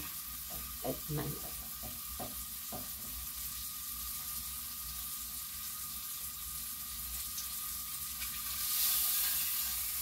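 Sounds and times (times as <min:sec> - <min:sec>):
mushrooms sizzling in a frying pan: 0:00.0 - 0:10.0.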